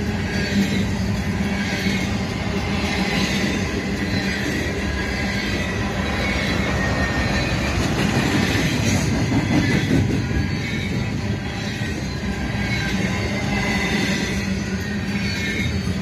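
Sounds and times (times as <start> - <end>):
freight train wheels rumbling and clattering: 0.0 - 16.0.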